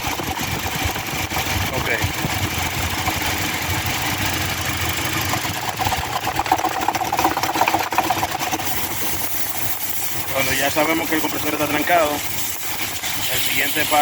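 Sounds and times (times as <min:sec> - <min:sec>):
engine idling: 0:00.0 - 0:14.0
rapid chattering noise: 0:00.1 - 0:14.0.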